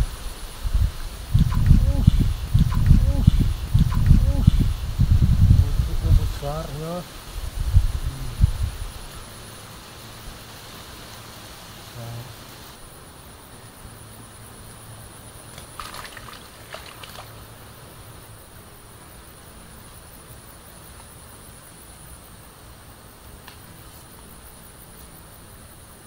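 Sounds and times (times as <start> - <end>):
high-pitched insect drone: 1.1 - 26.0.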